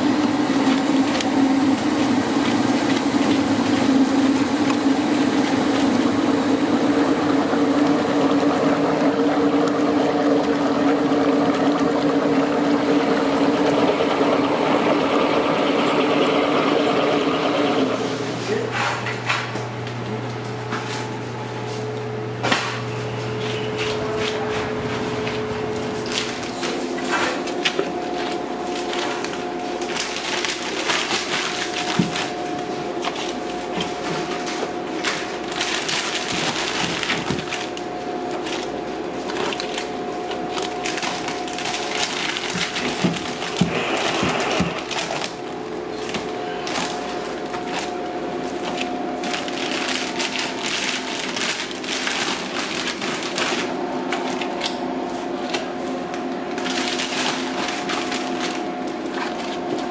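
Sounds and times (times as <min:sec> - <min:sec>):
dough crunching and plastic rustling: 0:00.0 - 0:15.3, 0:18.0 - 0:59.9
steady machine hum: 0:00.0 - 0:59.9.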